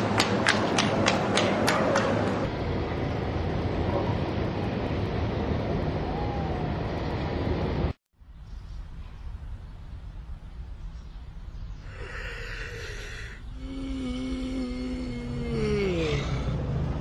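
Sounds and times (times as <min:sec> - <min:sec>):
low rumble with hiss: 0:02.3 - 0:17.0.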